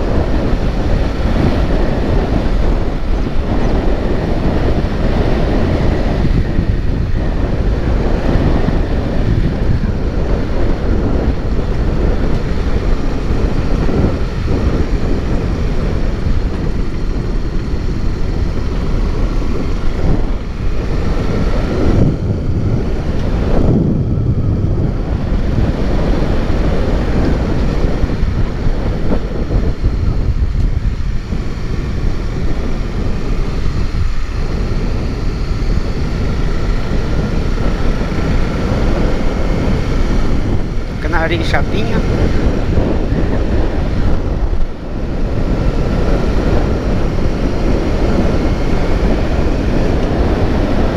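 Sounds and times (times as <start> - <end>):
motorcycle running: 0.0 - 50.9
wind buffeting microphone: 0.0 - 50.9.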